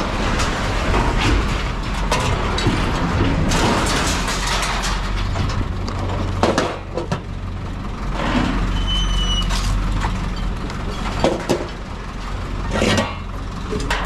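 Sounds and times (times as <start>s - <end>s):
knocks and clanks: 0.0s - 7.4s, 9.4s - 14.0s
heavy engine running: 0.0s - 14.0s.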